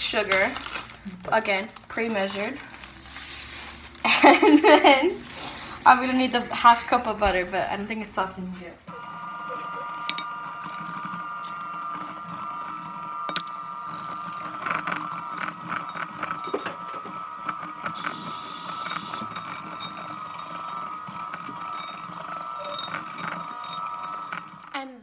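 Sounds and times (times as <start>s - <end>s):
electric mixer motor whine: 1.8s - 7.3s, 8.8s - 25.0s.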